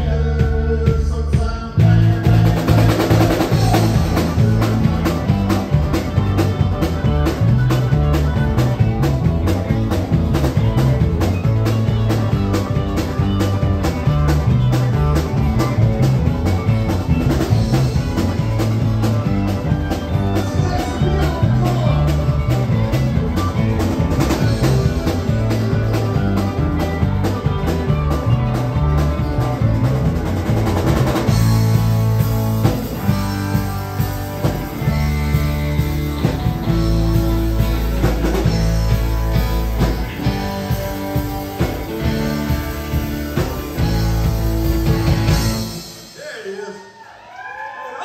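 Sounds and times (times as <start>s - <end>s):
bass guitar: 0.0s - 46.2s
drum kit beat: 0.0s - 46.6s
electric and acoustic guitars: 0.0s - 47.9s.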